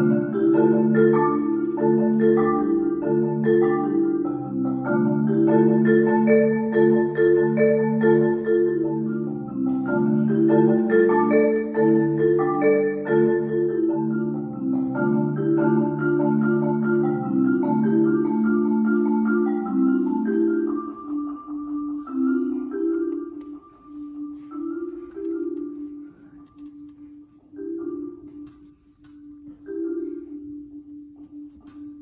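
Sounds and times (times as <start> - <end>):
marimba played with mallets: 0.0 - 32.0.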